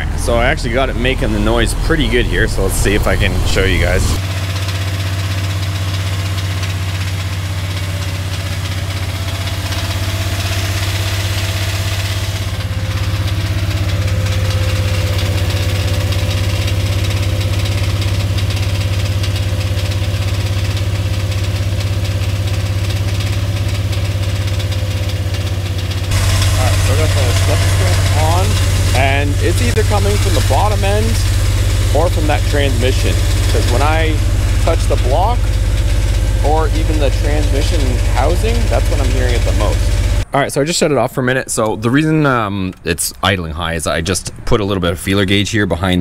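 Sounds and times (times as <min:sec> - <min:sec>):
engine running at raised idle: 0:00.0 - 0:40.3
rapid clattering engine tick: 0:02.8 - 0:40.3.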